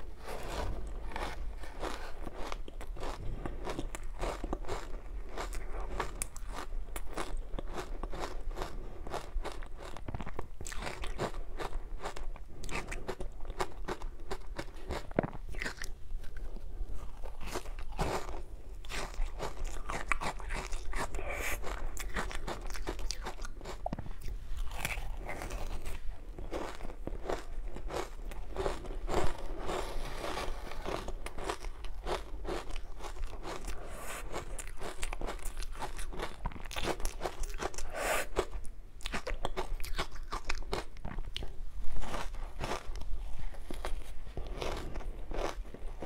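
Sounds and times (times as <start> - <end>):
chewing crunchy ice: 0.1 - 46.0.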